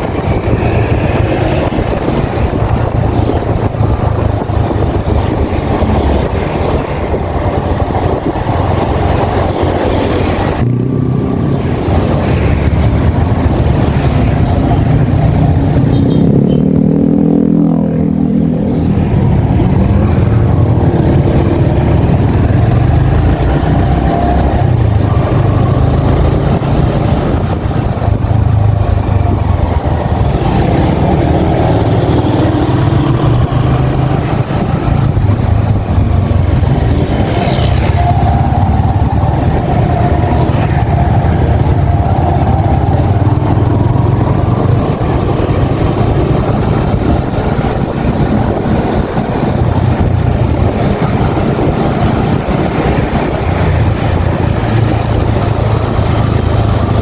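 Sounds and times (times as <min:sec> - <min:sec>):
motorcycle engine running on road: 0:00.0 - 0:57.0.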